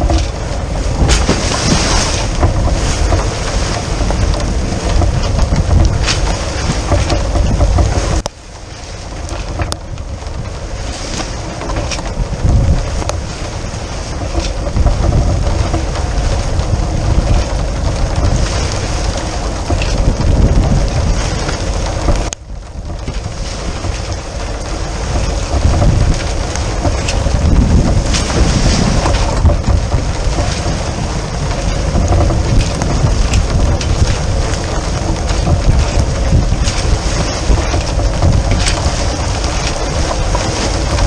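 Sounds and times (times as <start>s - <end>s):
heavy low rumble: 0.0s - 41.0s
rain: 0.0s - 41.0s
rushing water: 0.0s - 41.0s
wind buffeting microphone: 0.0s - 41.0s.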